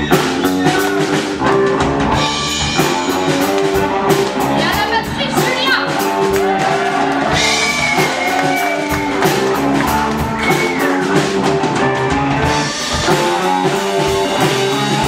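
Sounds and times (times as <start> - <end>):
drum kit steady beat: 0.0 - 15.0
electric guitar with sliding notes: 0.0 - 15.0.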